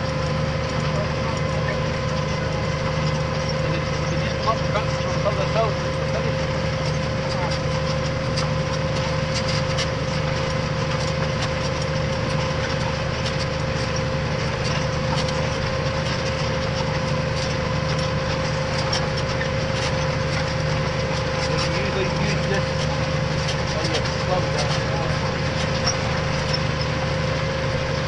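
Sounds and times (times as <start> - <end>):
constant pitched whine: 0.0 - 28.0
light rattles and ticks: 0.0 - 28.0
tractor engine droning: 0.0 - 28.0.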